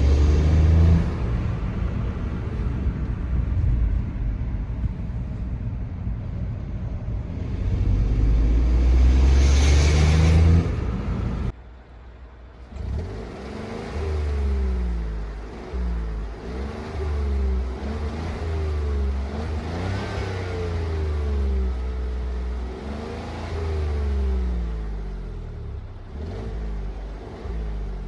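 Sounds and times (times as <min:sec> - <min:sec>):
car engine revving: 0:00.0 - 0:04.1, 0:07.1 - 0:11.6, 0:12.6 - 0:28.0.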